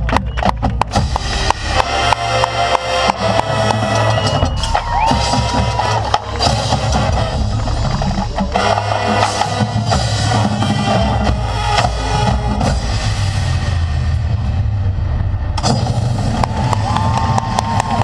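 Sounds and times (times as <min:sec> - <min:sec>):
marching band playing: 0:00.0 - 0:14.8
drums and percussion strikes: 0:00.0 - 0:18.0.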